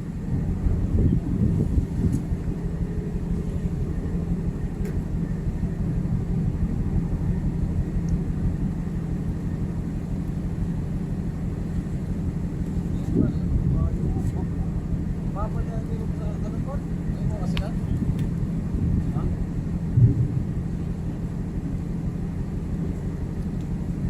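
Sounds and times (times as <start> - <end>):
ship machinery drone: 0.0 - 24.0.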